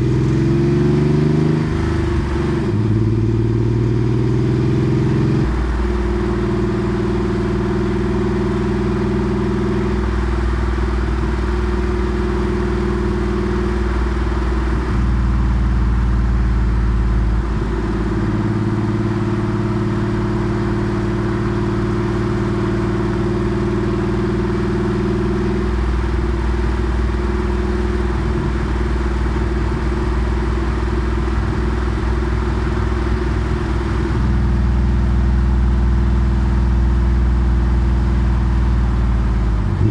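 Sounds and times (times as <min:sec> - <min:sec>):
car engine exhaust: 0:00.0 - 0:39.9.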